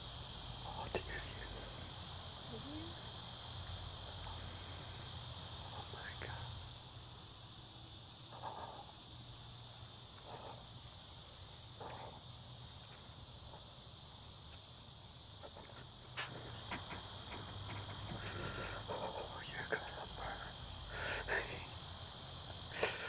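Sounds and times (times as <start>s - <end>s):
night insects chirring: 0.0s - 23.0s.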